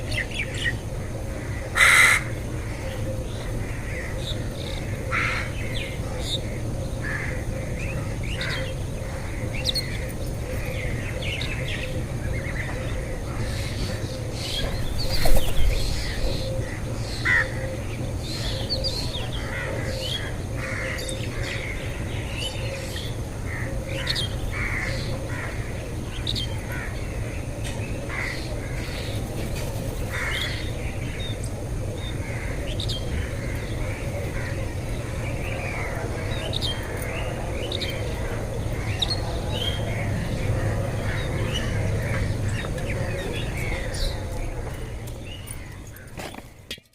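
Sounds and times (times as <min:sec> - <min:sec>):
birds chirping and calling: 0:00.0 - 0:46.9
constant low rumble: 0:00.0 - 0:46.9.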